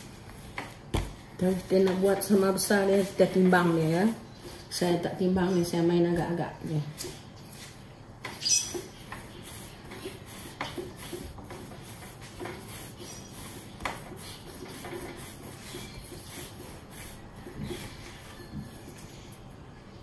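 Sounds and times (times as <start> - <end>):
hands rolling dough: 0.0 - 19.6.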